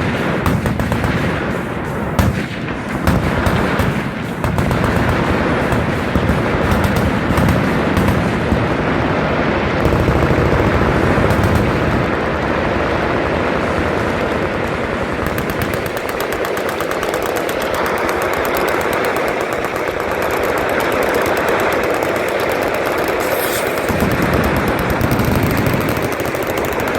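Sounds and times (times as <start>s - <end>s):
machine-gun fire: 0.0s - 26.9s.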